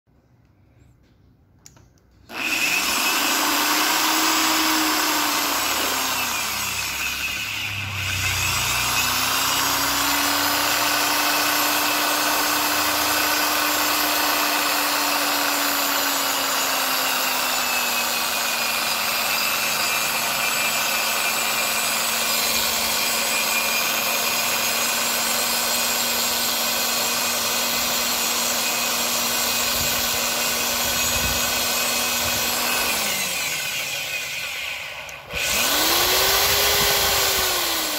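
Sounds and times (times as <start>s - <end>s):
electric drill motor whine: 2.2s - 37.9s.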